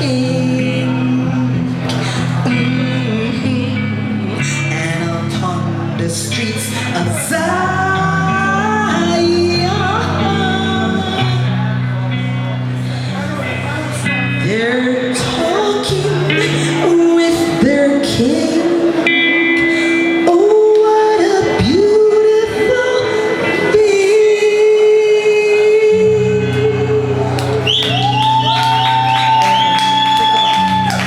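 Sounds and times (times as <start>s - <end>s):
person singing wordless vocal: 0.0s - 11.9s, 12.9s - 27.8s
live reggae band: 0.0s - 31.0s.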